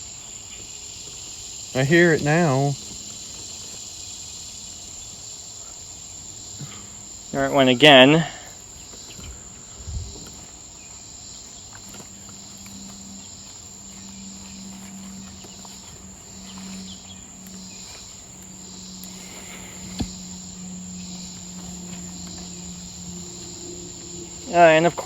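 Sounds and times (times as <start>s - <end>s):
cicada buzzing song: 0.0s - 25.0s
high insect trill: 0.0s - 25.0s
low steady buzz: 0.0s - 25.0s.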